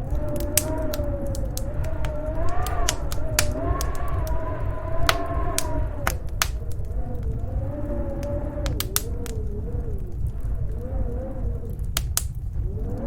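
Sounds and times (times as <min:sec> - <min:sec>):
low rumble: 0:00.0 - 0:13.0
storm wind howling: 0:00.0 - 0:13.0
wood fire crackling: 0:00.0 - 0:13.0.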